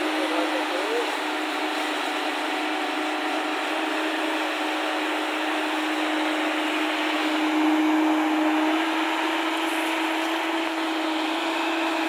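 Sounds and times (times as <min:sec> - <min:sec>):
excavator engine and hydraulics: 0:00.0 - 0:12.0.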